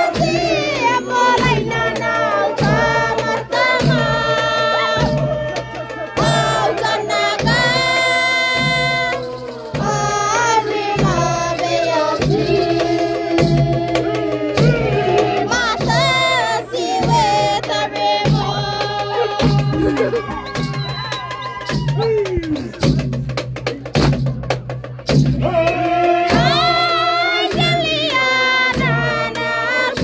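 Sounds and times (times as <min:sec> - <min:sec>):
voices singing: 0:00.0 - 0:23.1, 0:25.3 - 0:30.0
steady drum beat: 0:00.0 - 0:30.0.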